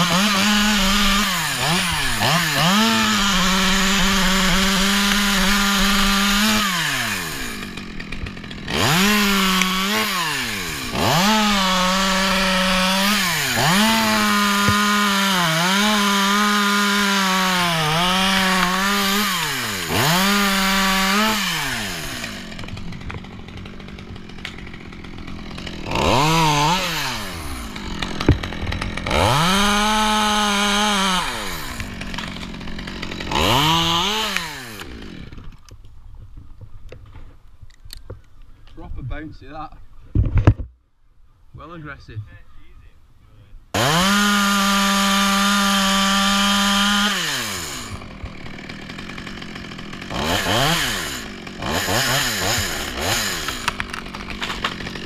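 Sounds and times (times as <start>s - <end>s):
chainsaw cutting wood: 0.0s - 37.2s, 43.7s - 55.0s.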